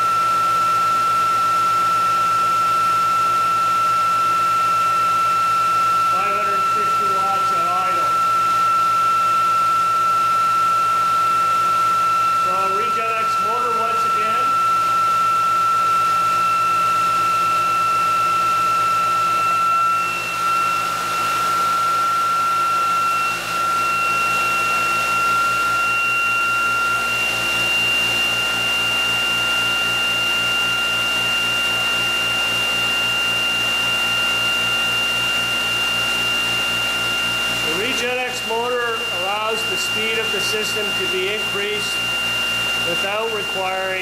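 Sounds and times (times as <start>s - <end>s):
electric motor high whine: 0.0s - 44.0s.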